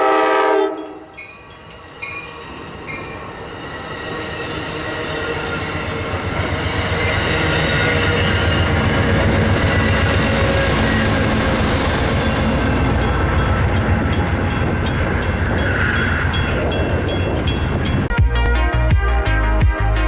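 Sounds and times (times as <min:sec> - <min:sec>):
passenger train passing: 0:00.0 - 0:18.2.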